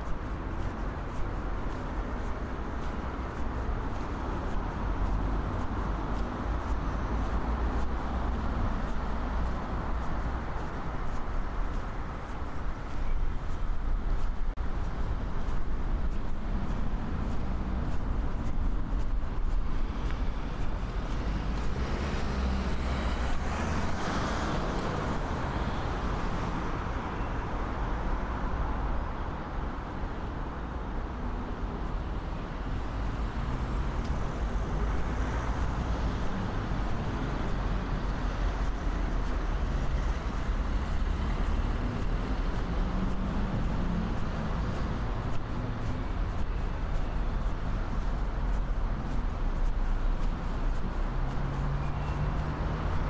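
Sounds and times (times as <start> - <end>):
passing cars rumbling: 0.0 - 27.0, 30.4 - 53.0.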